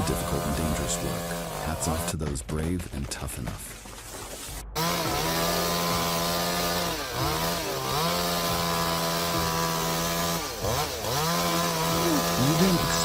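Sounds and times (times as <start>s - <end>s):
chainsaw engine at high revs: 0.0s - 2.3s, 4.8s - 13.0s.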